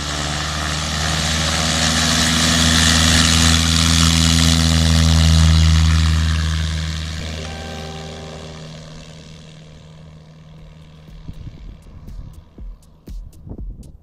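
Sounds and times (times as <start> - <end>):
light aircraft engine and propeller: 0.0 - 13.4.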